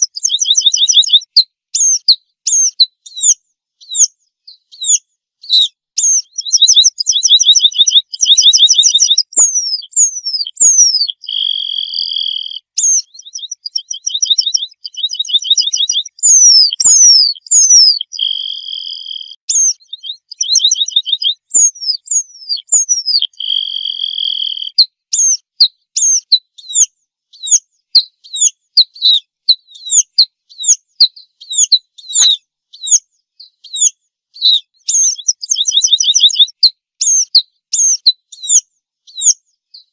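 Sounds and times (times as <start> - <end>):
bird singing trills and buzzy notes: 0.0 - 25.4, 30.6 - 38.6.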